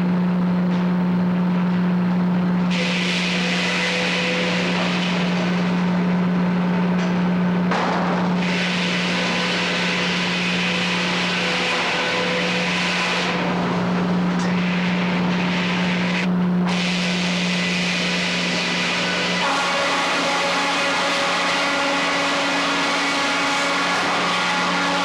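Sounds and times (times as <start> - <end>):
circular sawmill running: 2.4 - 25.0.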